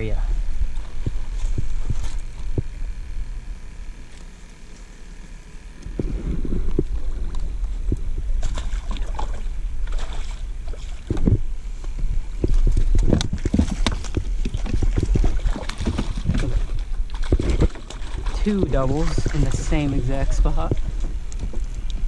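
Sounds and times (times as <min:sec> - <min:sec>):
wind rumble on microphone: 0:00.0 - 0:04.0, 0:05.7 - 0:22.0.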